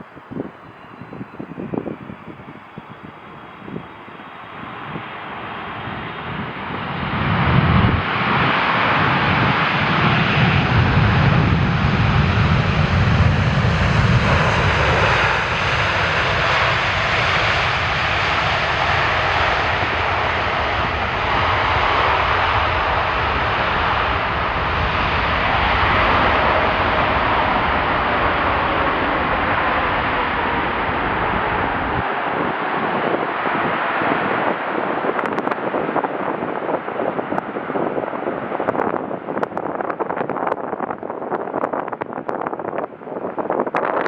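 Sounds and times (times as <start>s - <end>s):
jet airliner passing: 0.0s - 44.0s.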